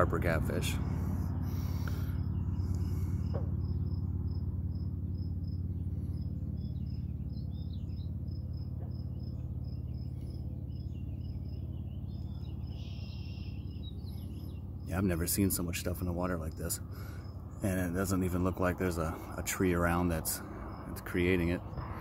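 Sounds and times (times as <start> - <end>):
bird calls: 0.0 - 22.0
steady low rumble: 0.0 - 22.0
insect chirping: 1.0 - 22.0.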